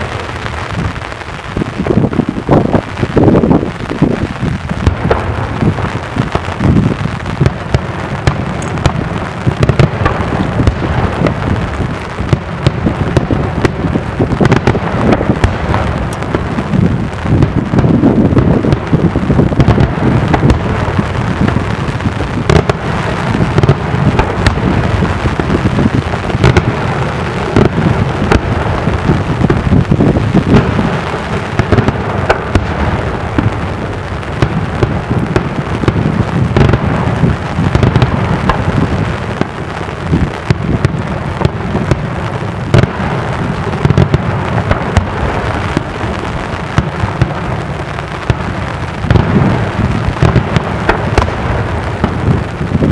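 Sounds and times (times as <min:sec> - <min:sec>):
fireworks shells bursting: 0:00.0 - 0:52.9.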